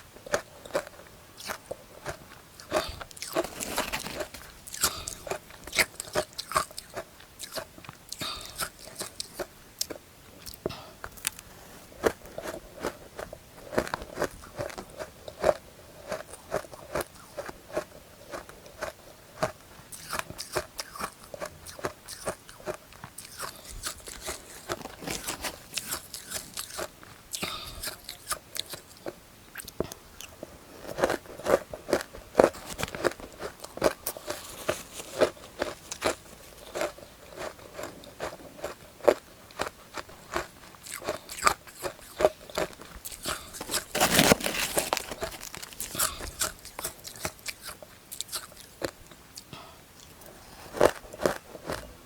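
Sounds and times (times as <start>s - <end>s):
chewing crunchy ice: 0.2s - 52.0s.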